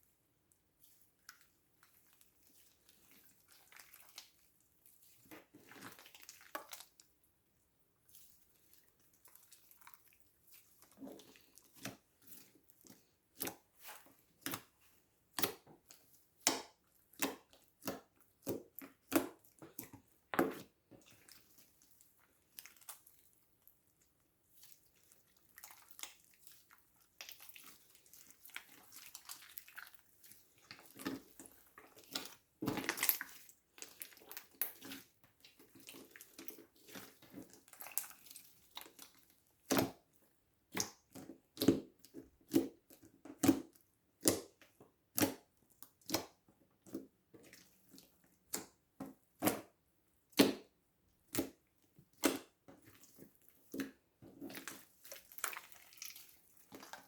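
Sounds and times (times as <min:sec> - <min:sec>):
slime squelching and popping: 0:00.8 - 0:07.1, 0:08.2 - 0:57.0.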